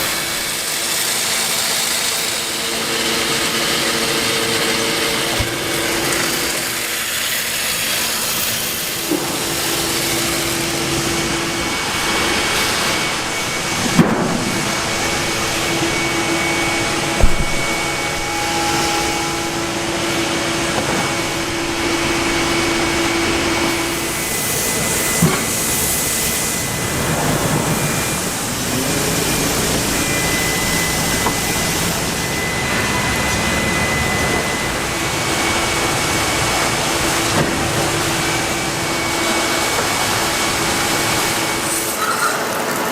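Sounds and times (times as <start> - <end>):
woodworking machinery humming: 0.0 - 42.9.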